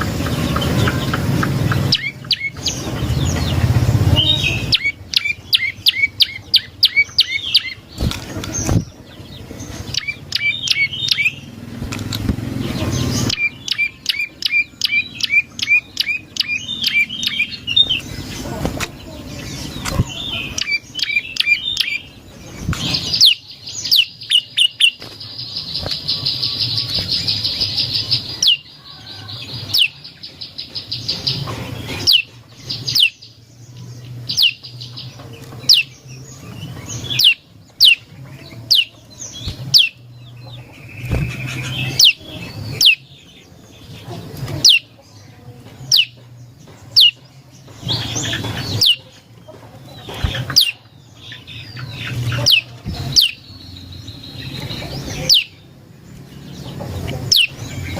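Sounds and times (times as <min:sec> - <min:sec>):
songbird chirping trills: 0:00.0 - 0:57.9.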